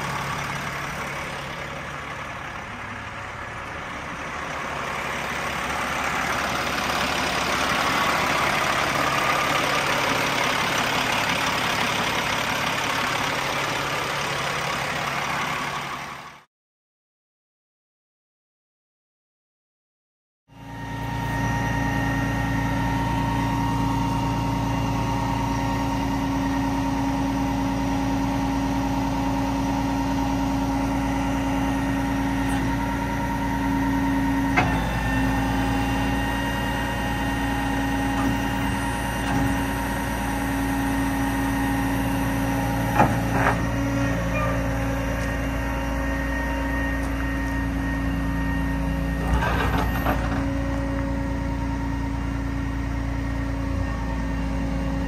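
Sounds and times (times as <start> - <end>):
diesel truck engine idling: 0.0 - 16.5, 20.6 - 55.0.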